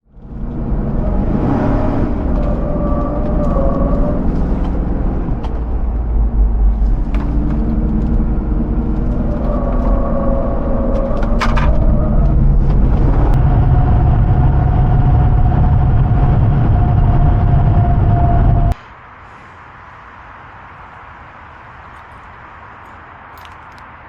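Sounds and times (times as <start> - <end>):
engine running with low drone: 0.0 - 24.0.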